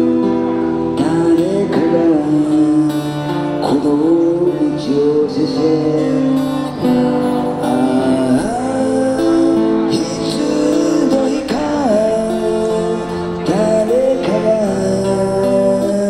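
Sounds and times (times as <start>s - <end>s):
amplified acoustic guitar strumming: 0.0s - 16.0s
person singing: 0.9s - 16.0s.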